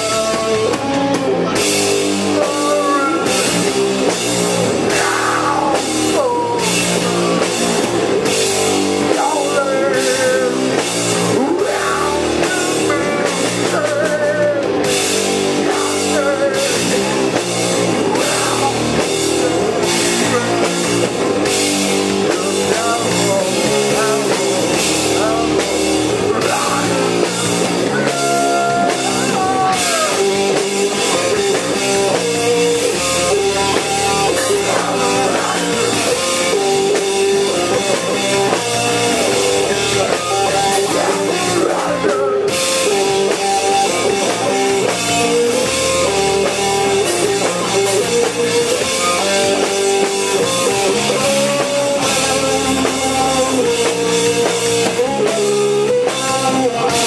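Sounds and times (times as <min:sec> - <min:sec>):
bass guitar: 0:00.0 - 0:57.0
distorted electric guitar: 0:00.0 - 0:57.0
drum kit: 0:00.0 - 0:57.0.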